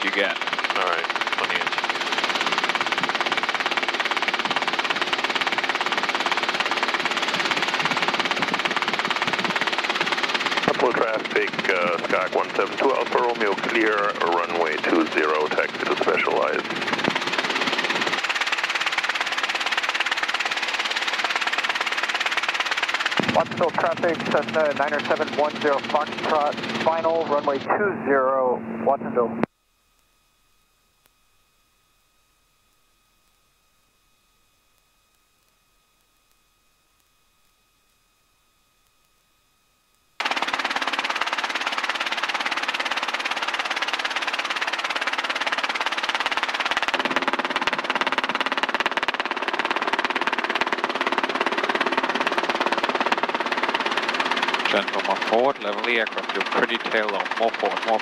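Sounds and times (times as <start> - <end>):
helicopter rotor and engine hum: 0.0 - 29.5, 40.2 - 58.0.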